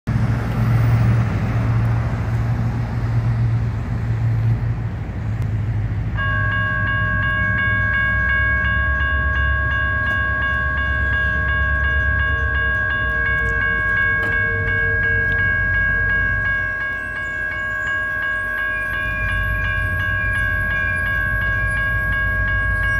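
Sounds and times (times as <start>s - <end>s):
railroad crossing bells ringing: 0.4s - 22.9s.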